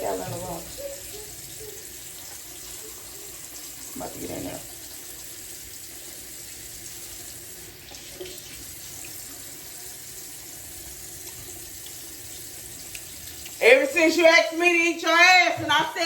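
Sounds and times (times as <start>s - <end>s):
tap water running: 0.0s - 16.0s.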